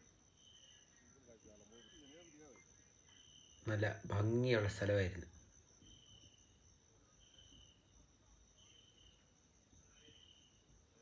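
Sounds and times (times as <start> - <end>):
insect high trill: 0.0 - 11.0
thin high insect whine: 0.0 - 11.0.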